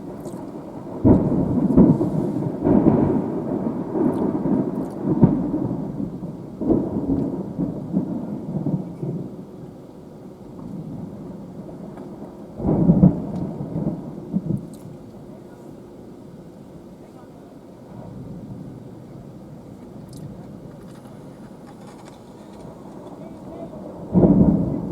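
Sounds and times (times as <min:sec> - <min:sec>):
rain: 0:00.0 - 0:24.9
thunder rumbling: 0:00.0 - 0:24.9.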